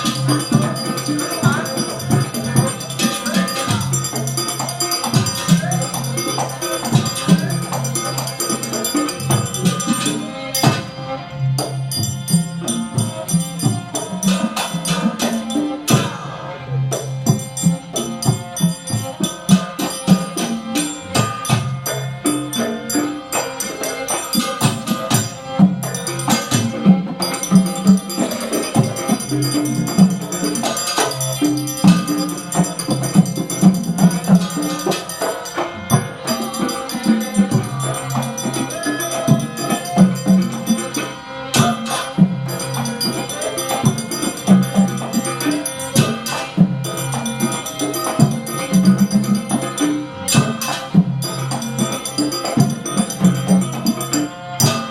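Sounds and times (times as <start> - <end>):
drum rhythm: 0.0 - 54.9
jingling percussion: 0.0 - 54.9
sustained melodic tones: 0.0 - 54.9.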